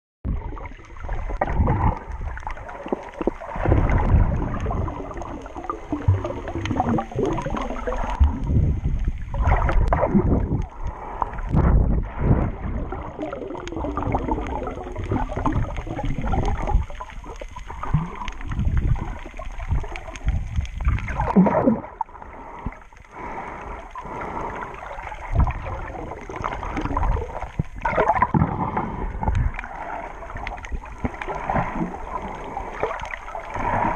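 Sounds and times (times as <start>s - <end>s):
water sloshing underwater: 0.2s - 33.9s
bubbling surges: 0.3s - 33.9s.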